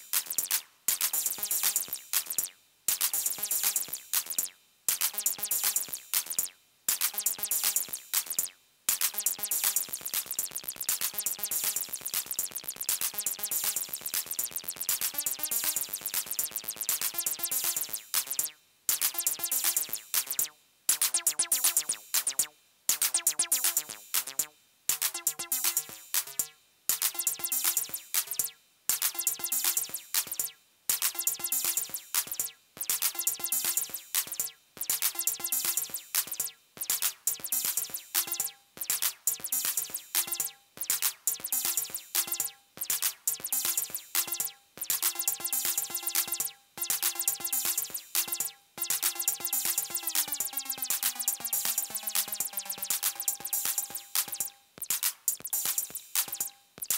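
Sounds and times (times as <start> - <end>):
drum machine pattern: 0.0 - 56.9.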